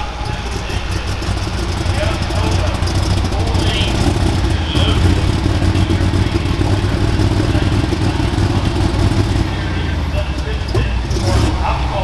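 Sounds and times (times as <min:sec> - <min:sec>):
tractor engine running at low speed: 0:00.0 - 0:12.0.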